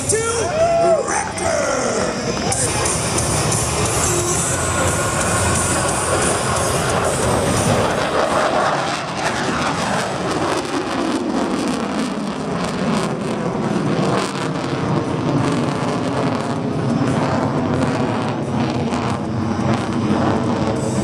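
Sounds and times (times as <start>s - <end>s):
loud jet engine noise: 0.0s - 21.0s.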